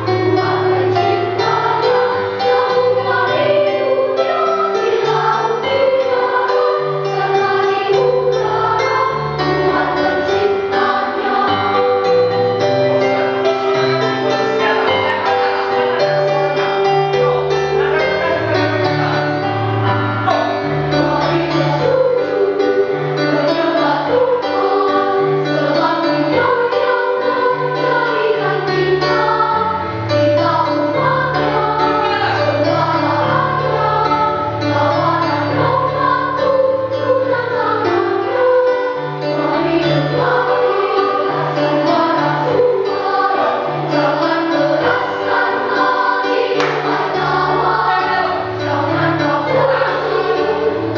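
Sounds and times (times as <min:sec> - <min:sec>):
children's choir singing: 0:00.0 - 0:50.9
keyboard accompaniment: 0:00.0 - 0:50.9.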